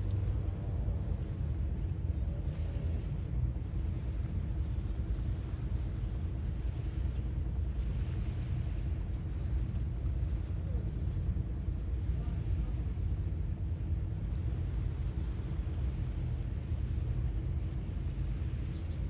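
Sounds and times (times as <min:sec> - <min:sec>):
sea waves washing in: 0:00.0 - 0:19.0
steady low rumble: 0:00.0 - 0:19.0.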